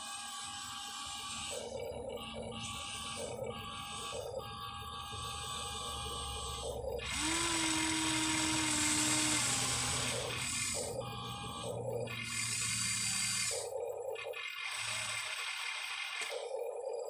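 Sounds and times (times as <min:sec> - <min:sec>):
steady motor whine: 0:00.0 - 0:16.7
toy excavator motors whirring: 0:00.0 - 0:17.0.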